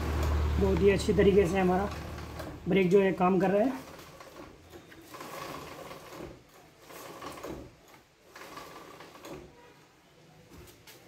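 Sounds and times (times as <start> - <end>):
wheel and chain whirring: 0.0 - 9.6.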